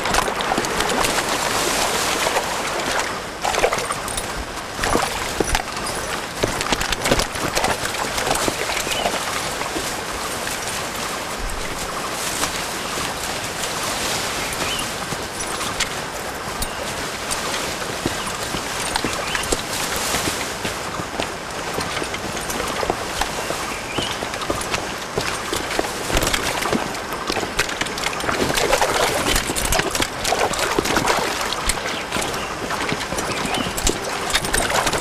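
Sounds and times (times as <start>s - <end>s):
creek water running over rocks: 0.0s - 35.0s.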